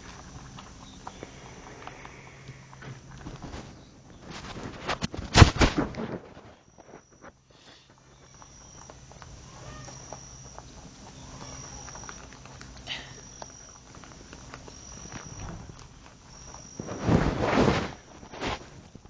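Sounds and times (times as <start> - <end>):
low steady hum: 0.0 - 19.0
rabbits chewing kibble: 0.0 - 19.0.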